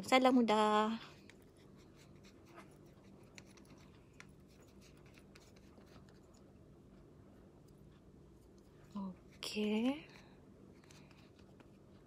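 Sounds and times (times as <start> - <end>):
faint ticks and scratches: 0.0 - 12.0.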